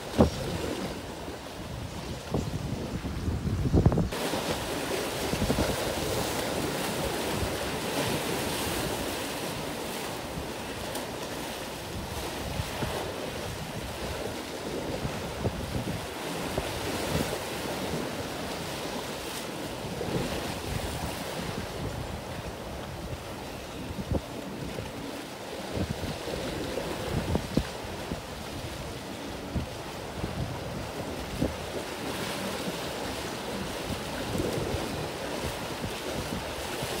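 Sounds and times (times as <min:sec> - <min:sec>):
wind buffeting microphone: 0:00.0 - 0:19.2, 0:19.8 - 0:37.0
sea waves washing: 0:00.0 - 0:37.0.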